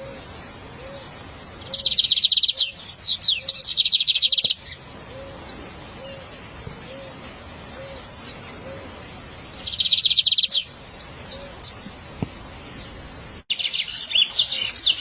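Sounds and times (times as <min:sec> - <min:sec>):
faint bird chirps: 0:00.0 - 0:15.0
songbird trilling: 0:00.0 - 0:15.0.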